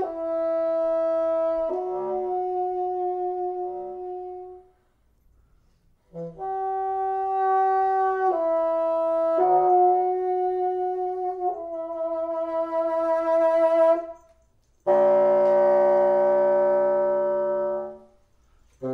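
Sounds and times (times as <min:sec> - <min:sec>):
bassoon playing held tones: 0:00.0 - 0:04.8, 0:06.0 - 0:18.9.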